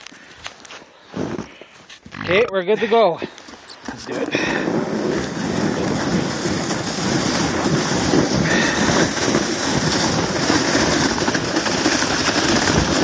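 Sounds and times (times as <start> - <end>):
sled scraping over snow: 0.2 - 3.2, 3.9 - 13.0.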